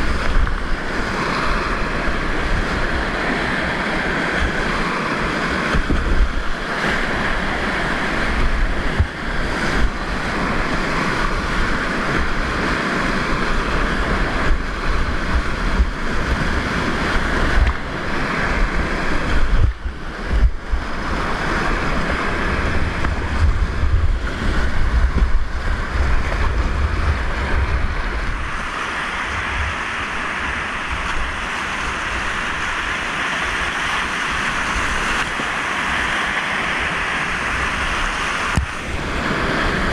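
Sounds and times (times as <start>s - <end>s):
rushing whitewater: 0.0s - 39.9s
waves washing over boat: 0.0s - 39.9s
wind buffeting on microphone: 0.0s - 39.9s.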